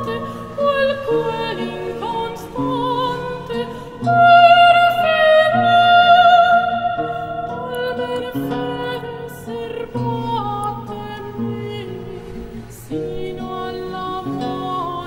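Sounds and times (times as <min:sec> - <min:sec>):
high singing voice with vibrato: 0:00.0 - 0:15.0.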